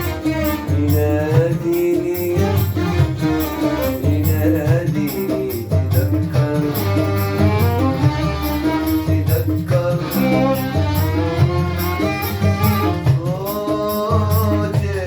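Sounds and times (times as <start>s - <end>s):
arabic-style music: 0.0s - 15.0s.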